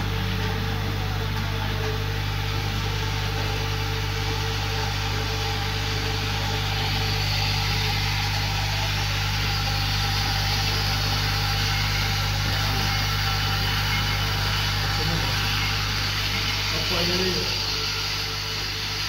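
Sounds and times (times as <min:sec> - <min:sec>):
electric hum: 0:00.0 - 0:19.0.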